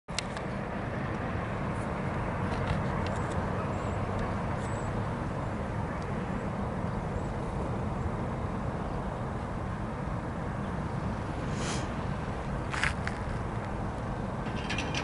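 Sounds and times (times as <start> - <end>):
low rumble of road traffic: 0.1 - 15.0
distant diesel freight train: 0.4 - 15.0.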